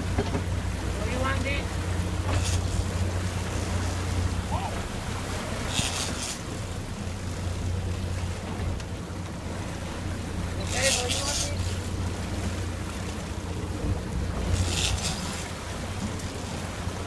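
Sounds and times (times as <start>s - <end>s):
boat engine running: 0.0s - 17.0s
wake water rushing: 0.0s - 17.0s.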